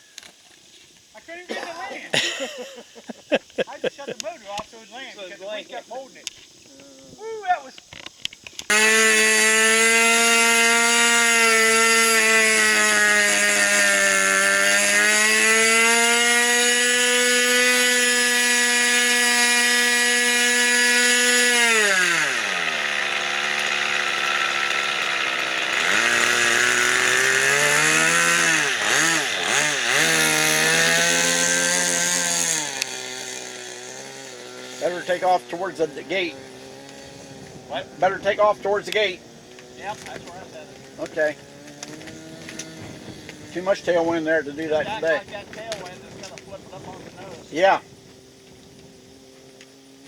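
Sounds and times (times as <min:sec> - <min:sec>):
model airplane engine running: 0:08.3 - 0:50.0.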